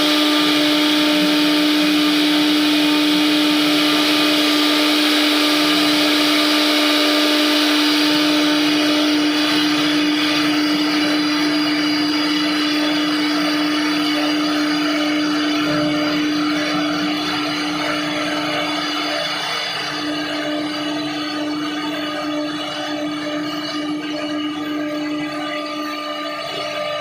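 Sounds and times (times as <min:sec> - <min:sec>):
router spindle cutting wood: 0:00.0 - 0:27.0.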